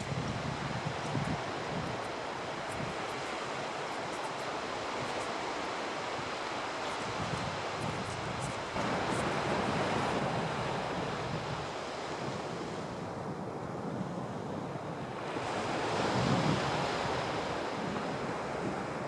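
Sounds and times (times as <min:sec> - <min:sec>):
wind buffeting microphone: 0:00.0 - 0:05.2, 0:06.1 - 0:19.0
waves breaking on a beach: 0:00.0 - 0:19.0.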